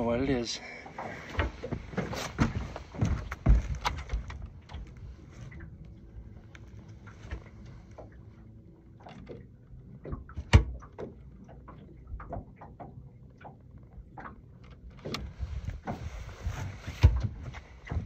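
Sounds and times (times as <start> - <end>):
faint steady hum: 0.0 - 18.0
knocks and clicks on boat deck: 1.0 - 8.3, 9.0 - 18.0.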